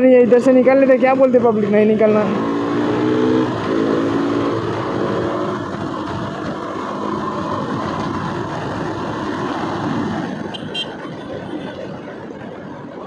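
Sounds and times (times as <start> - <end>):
road noise: 0.0 - 13.0
wind rushing over microphone: 0.0 - 13.0
motorcycle engine running: 1.1 - 13.0.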